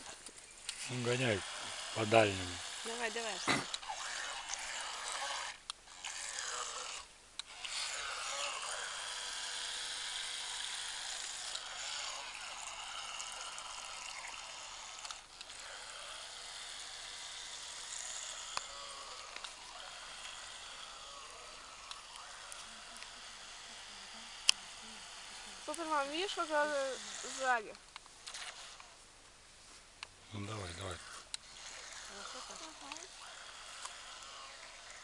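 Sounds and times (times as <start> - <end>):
electric motor whining: 0.7 - 29.0, 30.3 - 35.0.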